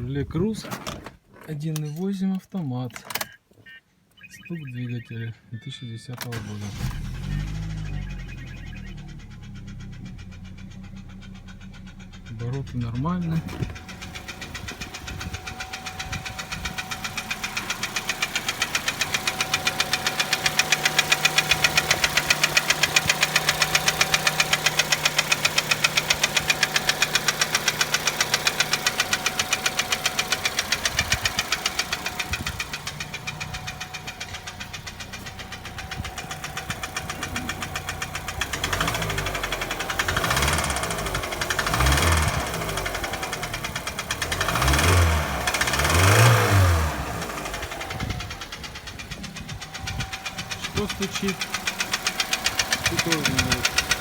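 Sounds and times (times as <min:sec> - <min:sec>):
car engine running: 0:06.3 - 0:54.0
rapid metallic engine knock: 0:08.8 - 0:54.0.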